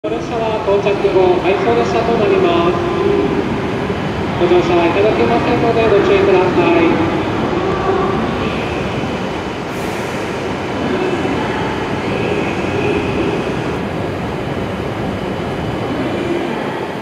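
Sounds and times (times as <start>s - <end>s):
faint train whine: 0.1s - 17.0s.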